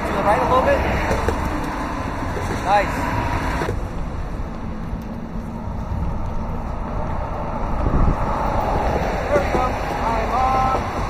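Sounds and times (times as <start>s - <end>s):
car passing close: 0.0s - 11.0s
road traffic rumble: 0.0s - 11.0s.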